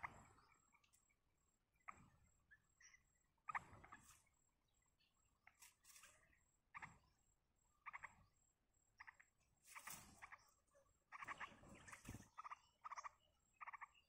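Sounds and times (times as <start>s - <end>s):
birds chirping softly: 0.0s - 14.0s.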